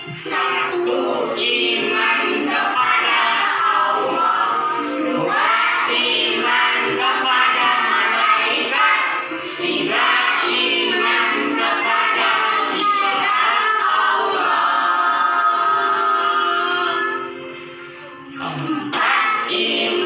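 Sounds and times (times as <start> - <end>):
music with singing: 0.0 - 20.0.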